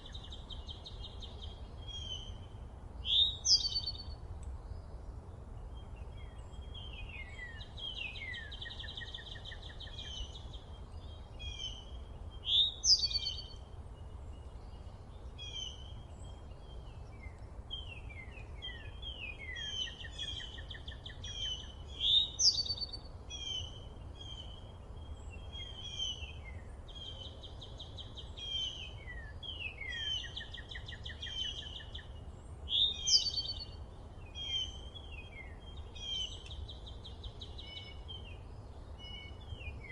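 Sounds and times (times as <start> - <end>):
loud rising bird song: 0.0 - 39.9
songbirds chirping and singing: 0.0 - 39.9.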